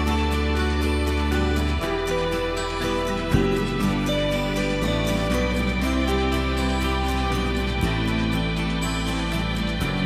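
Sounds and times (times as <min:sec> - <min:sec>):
soft sustained chord music: 0:00.0 - 0:10.0.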